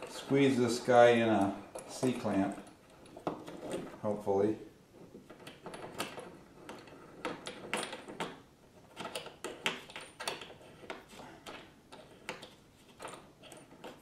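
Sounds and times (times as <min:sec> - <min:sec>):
metal clamp and nails rattling: 0:00.0 - 0:04.2, 0:05.0 - 0:14.0.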